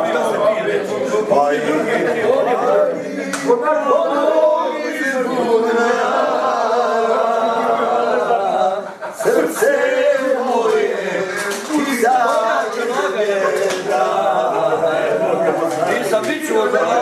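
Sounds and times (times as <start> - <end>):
men singing unaccompanied: 0.0 - 17.0.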